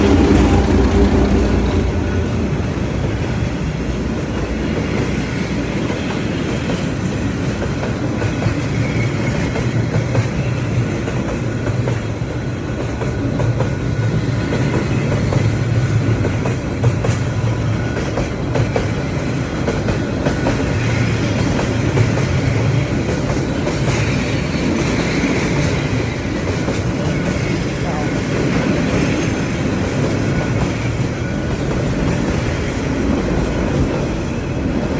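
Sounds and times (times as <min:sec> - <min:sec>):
freight train rumbling on rails: 0:00.0 - 0:34.9.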